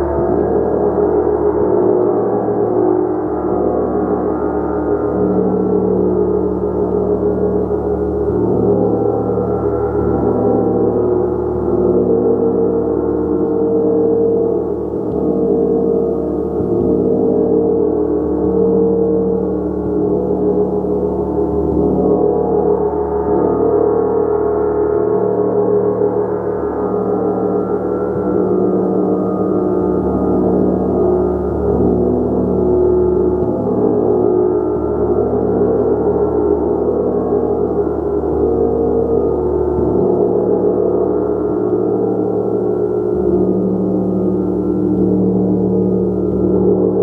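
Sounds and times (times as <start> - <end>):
large gong droning: 0.0 - 47.0.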